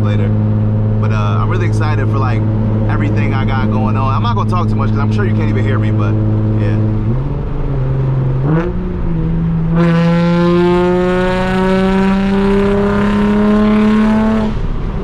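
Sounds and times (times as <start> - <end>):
car engine revving through loud exhaust: 0.0 - 15.0.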